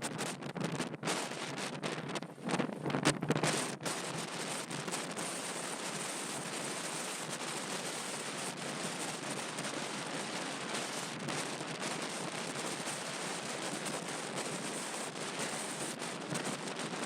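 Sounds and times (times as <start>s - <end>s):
faint crackle: 0.0s - 17.0s.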